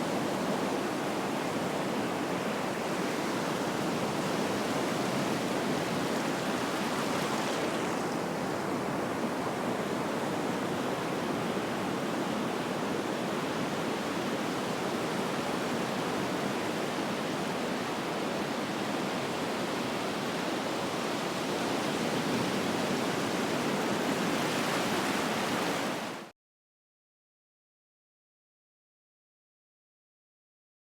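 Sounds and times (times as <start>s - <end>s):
ocean waves washing onto beach: 0.0s - 26.3s.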